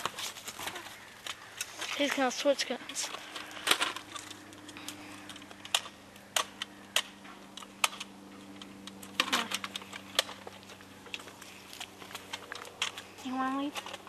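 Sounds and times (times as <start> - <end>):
low steady hum: 0.0 - 14.0
sharp clicks and crackles: 0.0 - 14.0.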